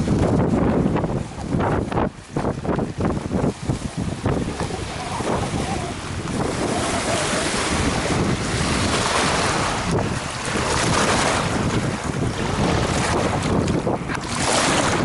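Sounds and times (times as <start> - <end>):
strong wind gusting: 0.0 - 15.0.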